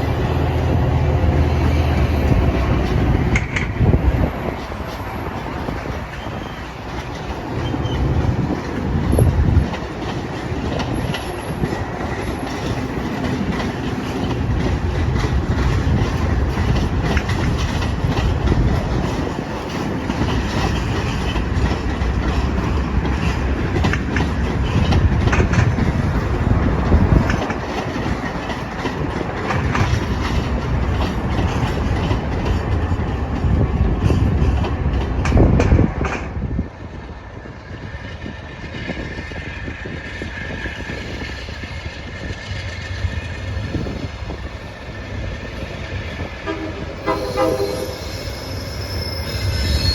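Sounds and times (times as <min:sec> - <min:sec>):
train rumbling past: 0:00.0 - 0:49.9
wheels clicking over rail joints: 0:00.3 - 0:47.8.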